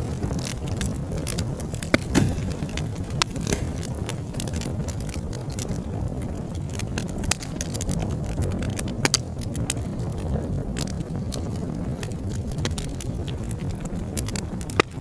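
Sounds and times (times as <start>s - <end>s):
low rumble of burning: 0.0s - 15.0s
wood fire crackling and popping: 0.0s - 15.0s.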